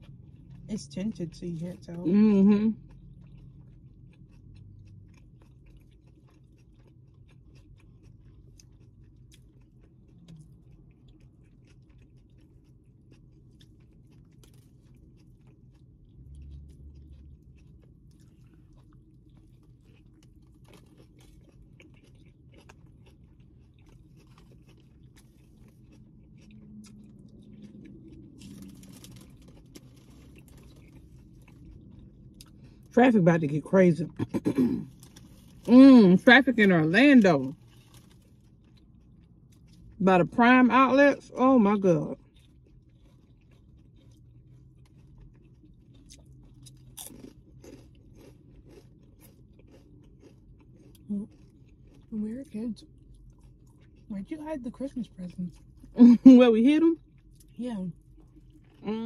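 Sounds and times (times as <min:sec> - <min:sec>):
low steady hum: 0:00.0 - 0:59.0
soft crunching while chewing: 0:00.0 - 0:59.0.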